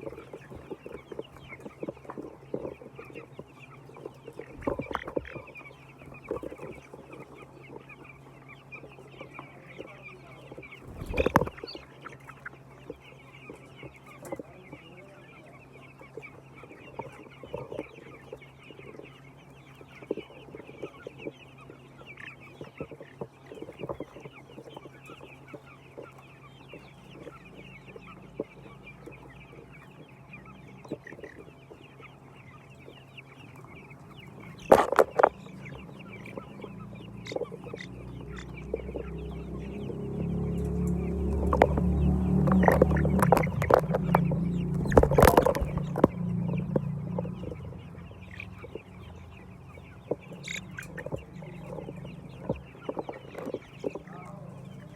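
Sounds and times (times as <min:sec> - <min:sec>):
hens clucking: 0:00.0 - 0:54.9
steady low hum: 0:00.0 - 0:54.9.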